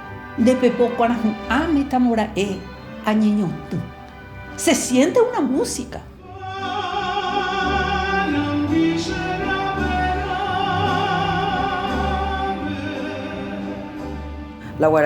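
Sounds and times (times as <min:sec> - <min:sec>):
slow accompaniment with bass: 0:00.0 - 0:14.8.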